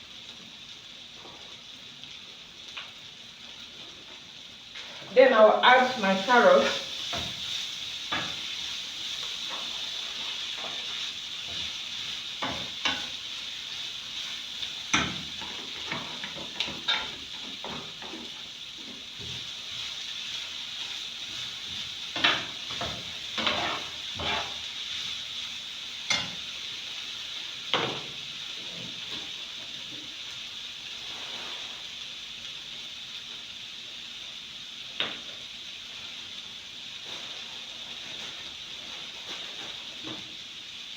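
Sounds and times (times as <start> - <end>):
vegetables sizzling in oil: 0.0 - 40.9.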